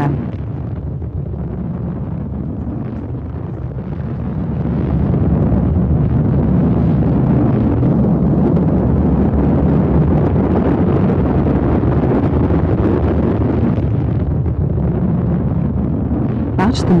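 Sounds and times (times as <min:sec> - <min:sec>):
rocket engine roar: 0:00.0 - 0:17.0.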